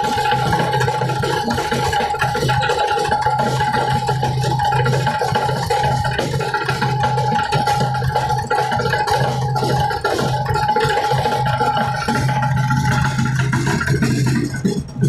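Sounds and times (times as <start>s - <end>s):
percussion: 0.0s - 15.0s
steady held tone: 0.0s - 15.0s.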